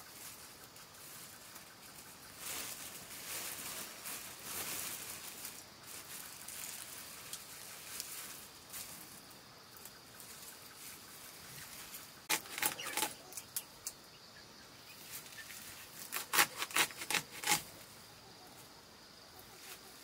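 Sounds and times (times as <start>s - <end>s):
leafy greens rustling: 0.0s - 13.7s, 14.9s - 17.9s
faint steady hiss: 0.0s - 16.1s, 17.6s - 20.0s.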